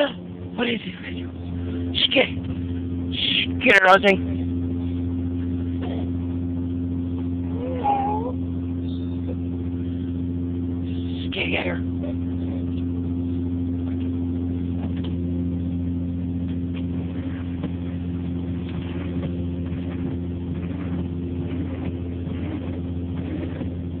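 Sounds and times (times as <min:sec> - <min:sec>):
car wash mechanical hum: 0:00.0 - 0:24.0.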